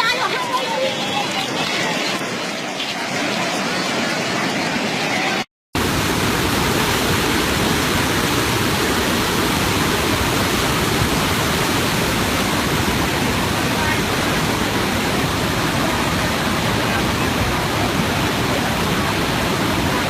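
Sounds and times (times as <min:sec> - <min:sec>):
river floodwater rushing: 0:00.0 - 0:20.0.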